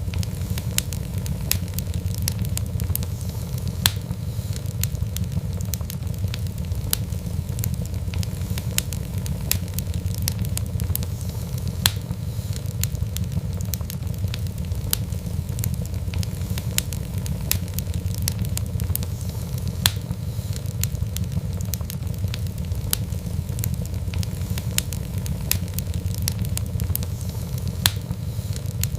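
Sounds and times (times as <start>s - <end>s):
low rumble of flame: 0.0s - 28.9s
sharp pops of fire: 0.0s - 28.9s
wood fire crackling: 0.0s - 28.9s.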